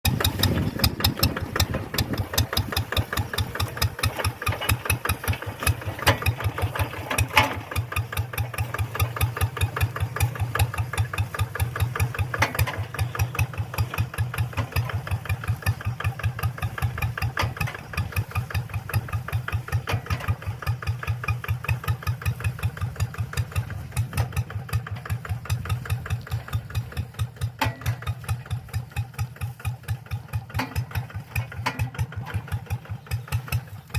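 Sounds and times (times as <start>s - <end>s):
tractor engine idling: 0.0s - 33.9s.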